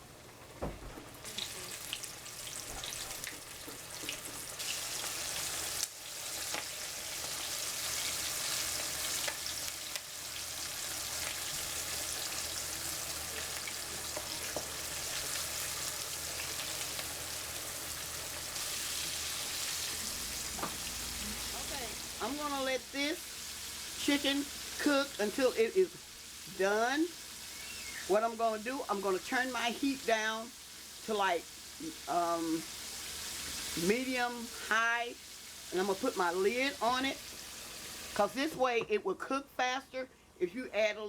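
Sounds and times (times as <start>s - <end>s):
chicken frying in hot oil: 0.0s - 38.2s.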